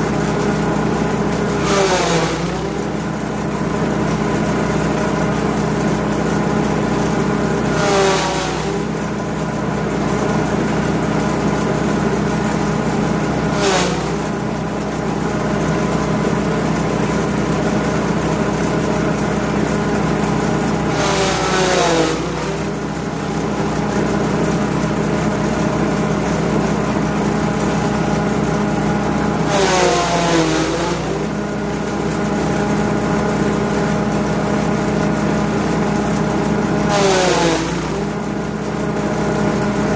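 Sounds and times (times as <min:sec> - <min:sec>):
petrol engine running: 0:00.0 - 0:39.9
rushing shredding noise: 0:00.0 - 0:39.9.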